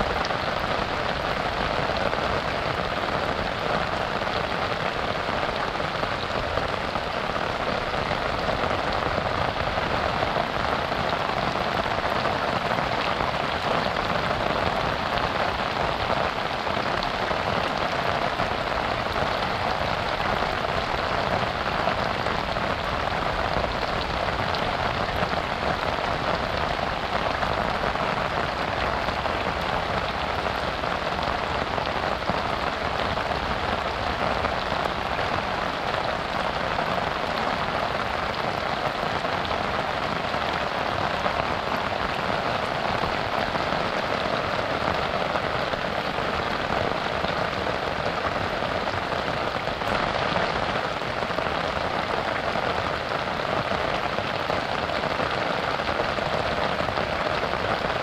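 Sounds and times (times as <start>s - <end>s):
rain falling on a river: 0.0s - 58.0s.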